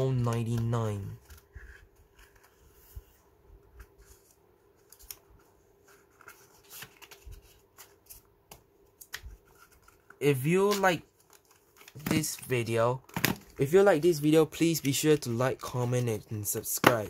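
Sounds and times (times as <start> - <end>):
playing cards clicking and rustling: 0.0 - 2.7, 3.8 - 17.0.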